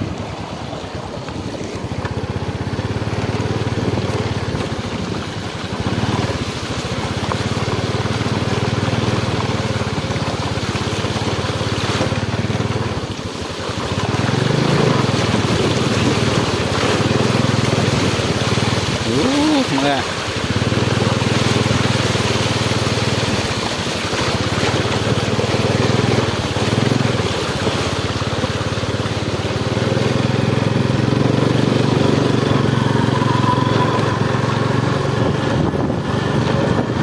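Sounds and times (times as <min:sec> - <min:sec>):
small motorbike engine: 0:00.0 - 0:37.0
water sloshing and splashing: 0:00.0 - 0:37.0.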